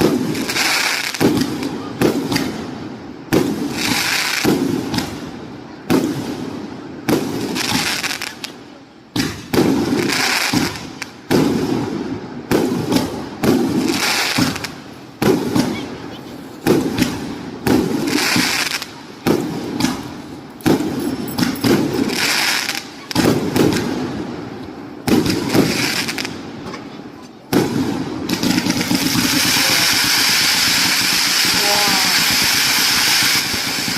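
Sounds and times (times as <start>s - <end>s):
firework bangs: 0.0s - 33.9s.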